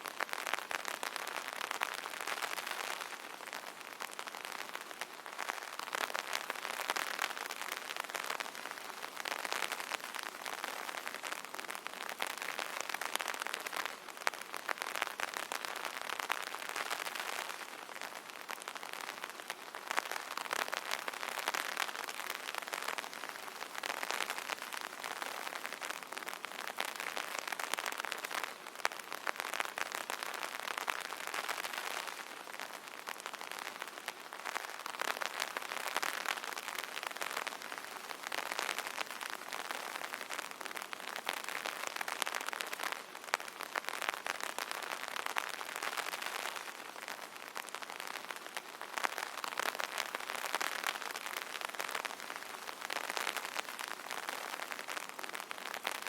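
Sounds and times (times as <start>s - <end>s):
rain pattering on an umbrella: 0.0s - 56.0s.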